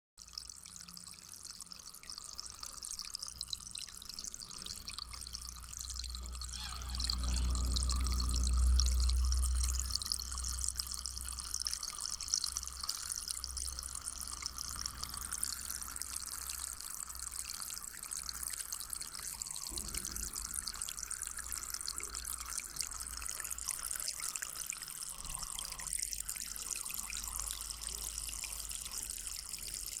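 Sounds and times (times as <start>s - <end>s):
spring water trickling: 0.2s - 30.0s.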